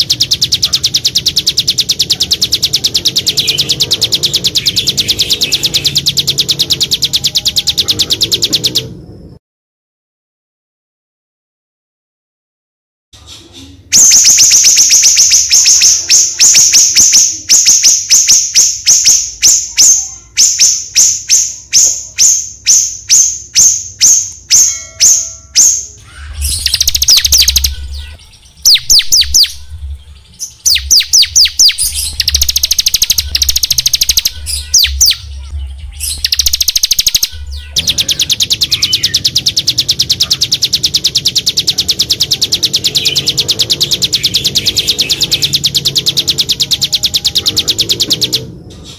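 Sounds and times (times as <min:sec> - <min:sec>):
bird trills: 0:00.0 - 0:08.9, 0:13.3 - 0:48.9
songbird singing: 0:00.0 - 0:09.4, 0:13.2 - 0:48.9.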